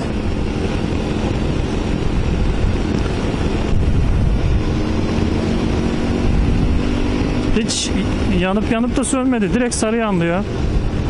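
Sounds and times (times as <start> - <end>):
motorcycle engine hum: 0.0 - 11.0
wind on microphone: 0.0 - 11.0.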